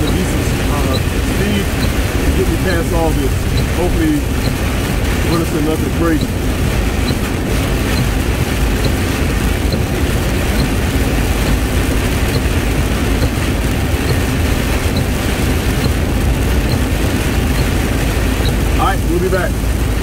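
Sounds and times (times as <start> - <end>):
faint ticking: 0.0 - 20.0
heavy rain on truck windshield: 0.0 - 20.0
truck engine and tyre spray: 0.0 - 20.0.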